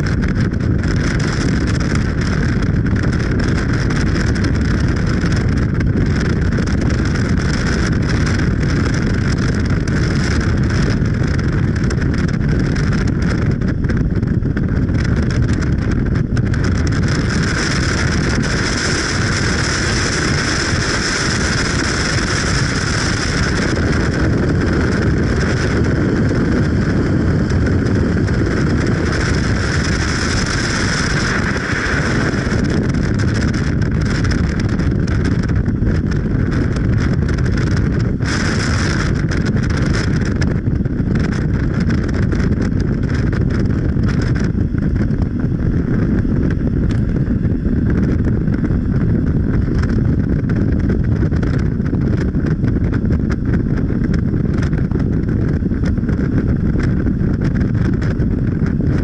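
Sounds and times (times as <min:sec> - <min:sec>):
vehicle low rumble: 0:00.0 - 0:59.0
wind buffeting microphone: 0:00.0 - 0:59.0.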